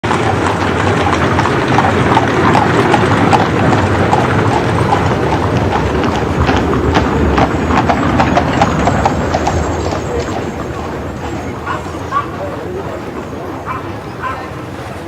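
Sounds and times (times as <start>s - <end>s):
horses hooves clip-clopping: 0.0s - 15.0s
murmur of street noise: 0.0s - 15.0s.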